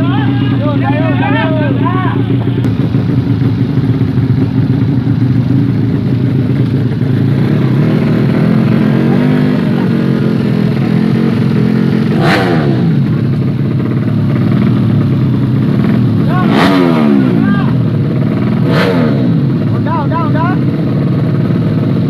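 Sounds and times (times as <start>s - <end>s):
motorcycle engines running: 0.0s - 22.0s.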